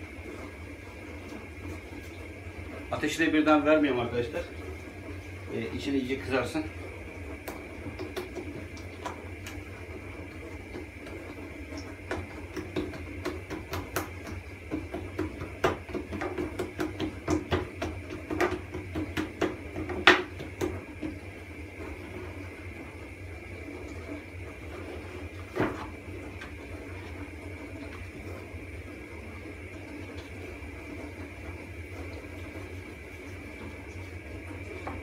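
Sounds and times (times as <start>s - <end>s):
dough frying in hot oil: 0.0s - 35.0s
steady low hum: 0.0s - 35.0s.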